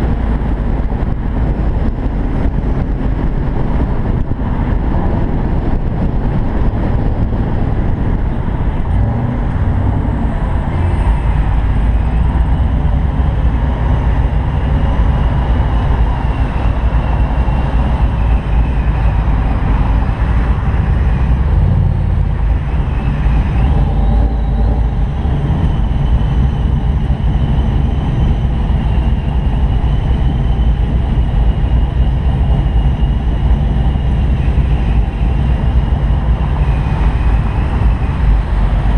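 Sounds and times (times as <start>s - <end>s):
car engine running: 0.0s - 38.9s
wind and road noise: 0.0s - 38.9s
wind rumble on microphone: 0.0s - 38.9s.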